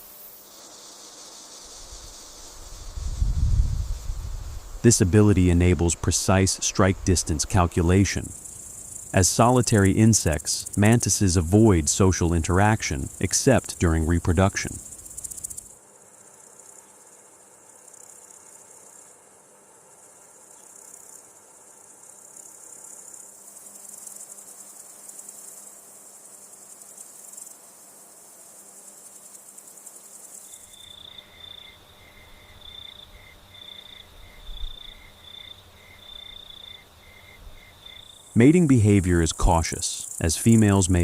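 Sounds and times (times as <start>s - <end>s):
cricket-like chirps: 0.0s - 41.0s
insects buzzing chorus: 0.0s - 41.0s.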